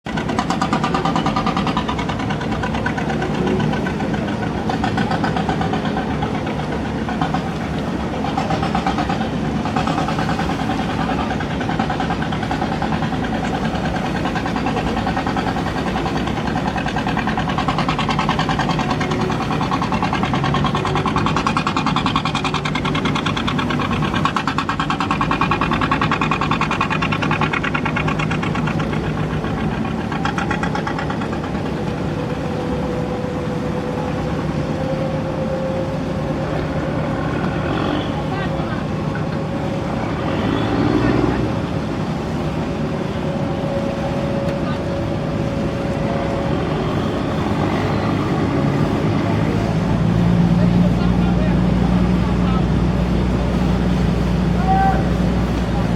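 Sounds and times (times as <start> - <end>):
pulsing engine machinery: 0.0 - 55.9.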